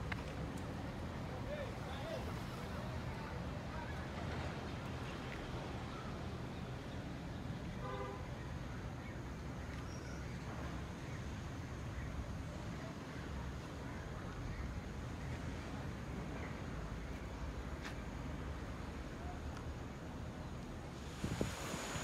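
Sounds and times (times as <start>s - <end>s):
low street rumble: 0.0s - 22.0s.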